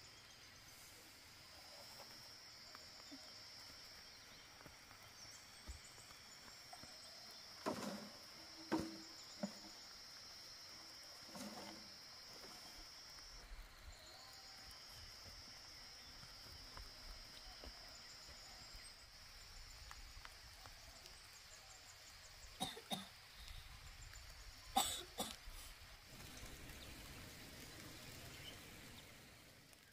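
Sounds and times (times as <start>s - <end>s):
insect droning: 0.0s - 29.9s.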